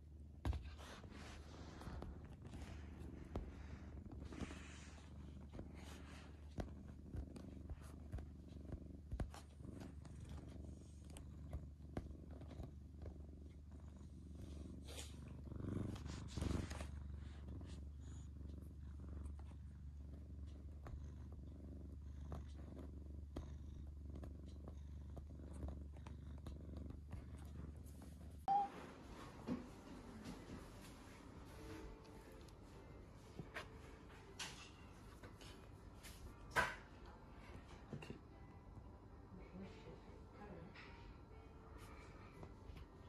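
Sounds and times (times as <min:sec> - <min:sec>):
cat purring: 0:00.0 - 0:43.0.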